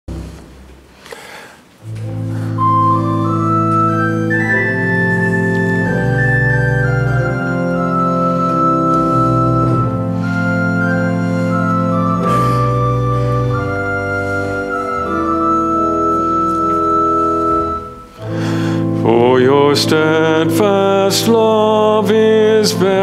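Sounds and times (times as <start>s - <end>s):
church organ playing chords: 0.1s - 0.8s, 1.8s - 23.0s.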